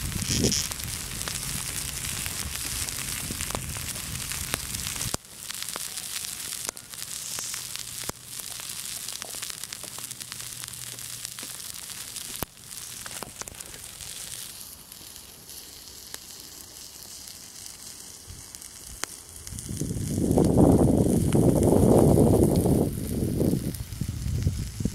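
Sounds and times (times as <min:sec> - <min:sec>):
sizzling with crackles and pops: 0:00.0 - 0:24.9.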